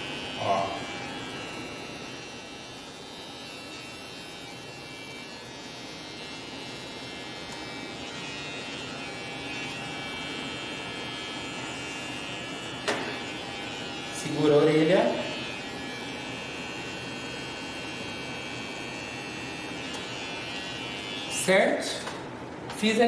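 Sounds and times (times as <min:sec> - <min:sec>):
hair trimmer buzzing: 0:00.0 - 0:23.0.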